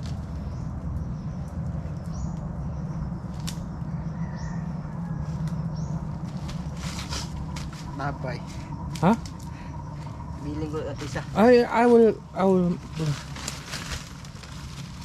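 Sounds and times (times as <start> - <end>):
bird chirps: 0.0 - 13.1
low mechanical drone: 0.0 - 15.0.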